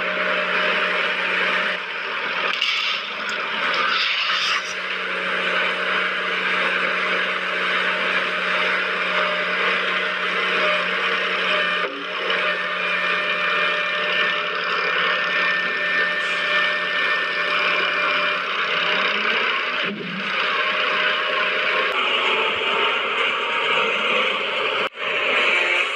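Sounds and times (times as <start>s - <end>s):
small electric motor whirring: 0.6s - 24.4s.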